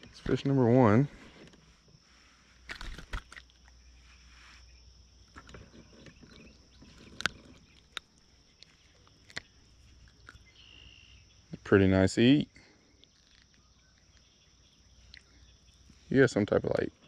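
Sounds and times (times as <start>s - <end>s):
high-pitched insect chirring: 2.6s - 17.0s.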